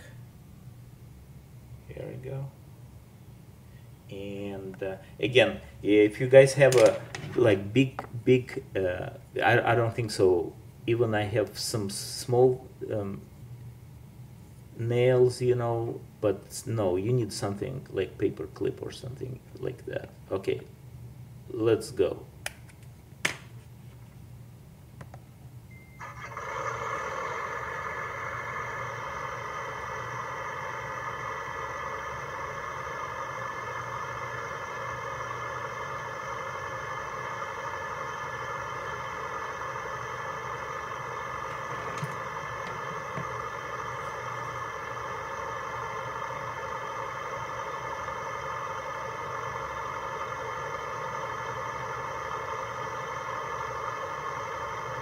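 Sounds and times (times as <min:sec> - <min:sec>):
refrigeration unit running from small speaker: 0:00.0 - 0:55.0.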